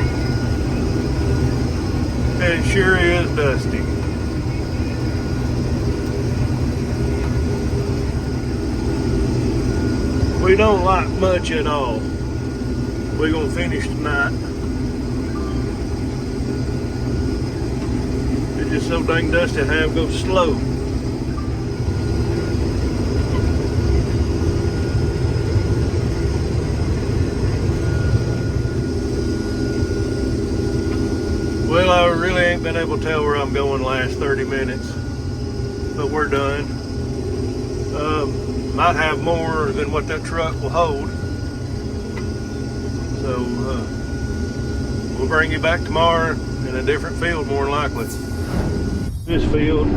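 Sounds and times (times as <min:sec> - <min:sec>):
combine harvester engine drone: 0:00.0 - 0:49.9
faint high whine: 0:00.0 - 0:49.9.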